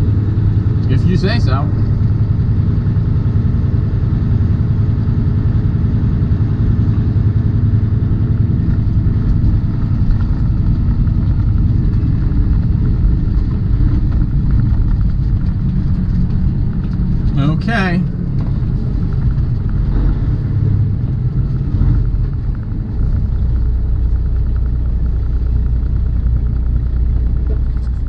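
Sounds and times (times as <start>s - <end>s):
truck engine rumble in cab: 0.0s - 28.0s.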